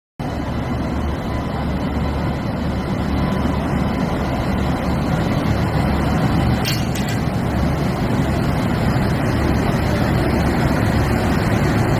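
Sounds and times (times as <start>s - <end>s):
locomotive low drone: 0.2s - 11.9s.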